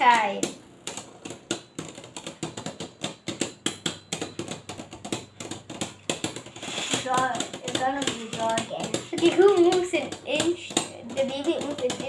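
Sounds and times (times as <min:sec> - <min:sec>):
spinning tops clacking together: 0:00.2 - 0:12.0.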